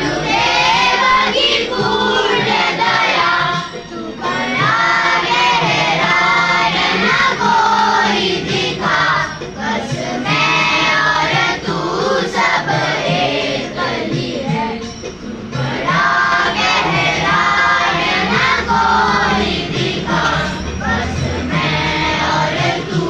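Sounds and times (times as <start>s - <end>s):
children singing a prayer: 0.0s - 23.0s.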